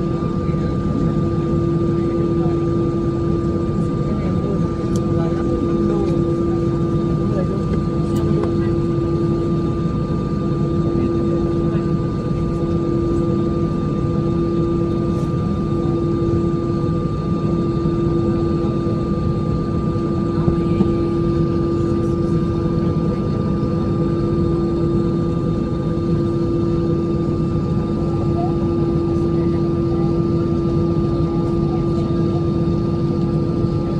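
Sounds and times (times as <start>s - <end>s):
aircraft engines droning: 0.0s - 33.9s.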